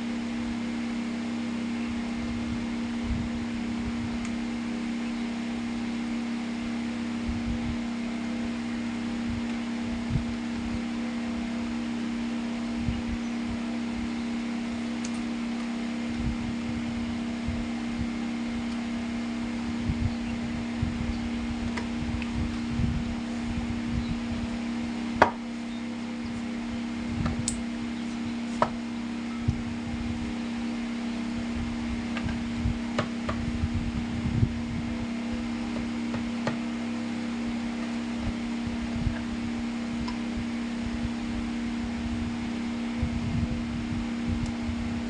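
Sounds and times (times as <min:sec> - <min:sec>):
small motor humming: 0:00.0 - 0:45.0.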